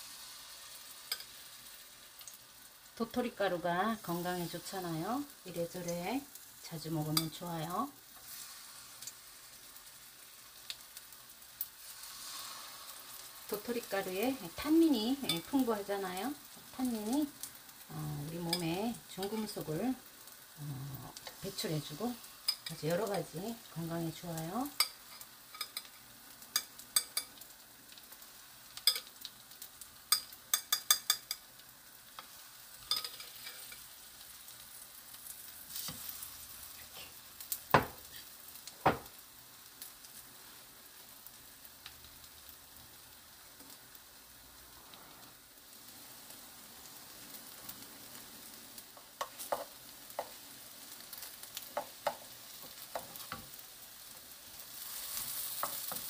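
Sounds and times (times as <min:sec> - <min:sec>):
batter frying in oil: 0:00.0 - 0:56.0.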